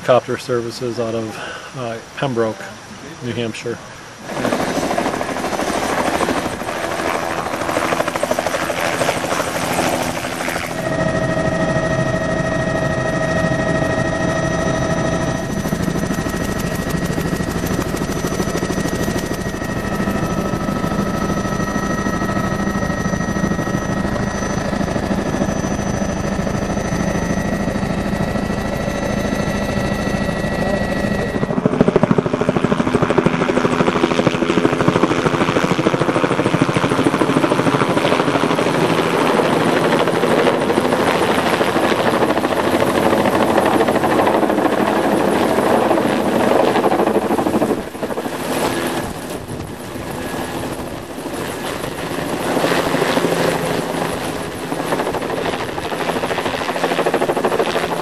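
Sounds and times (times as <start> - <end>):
helicopter engine whine: 0.0 - 58.0
helicopter rotor noise overhead: 0.0 - 58.0.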